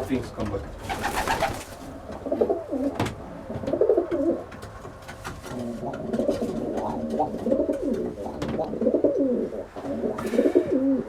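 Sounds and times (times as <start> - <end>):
pigeons cooing: 0.8 - 4.5, 5.5 - 11.0.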